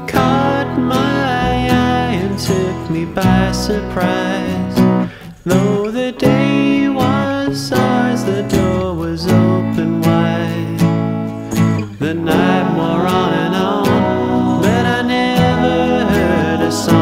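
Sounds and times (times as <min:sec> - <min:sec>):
pop-rock band music: 0:00.0 - 0:17.0.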